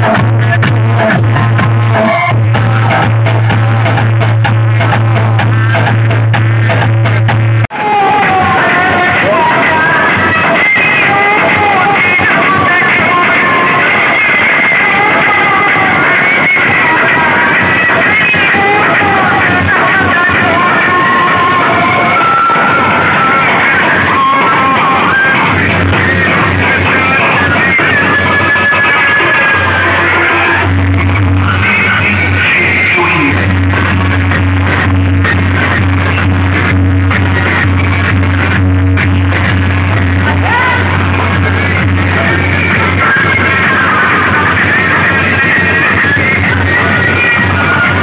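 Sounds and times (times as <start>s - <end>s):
loud dance music with pulsing bass: 0.0s - 48.0s.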